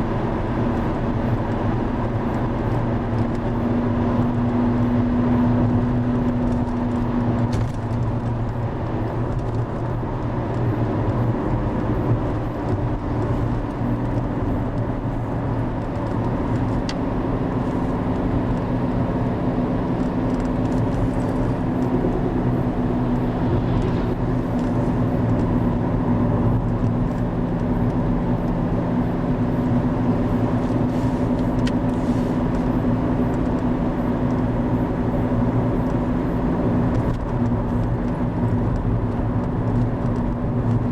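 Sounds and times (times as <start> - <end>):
constant rushing noise: 0.0 - 40.9
low engine-like hum: 0.0 - 40.9.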